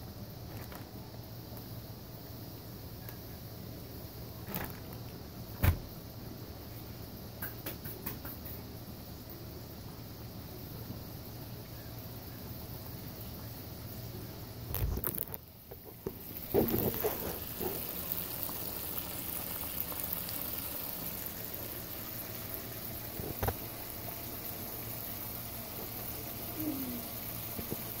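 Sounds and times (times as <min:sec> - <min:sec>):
hot oil bubbling and sizzling: 0:00.0 - 0:28.0.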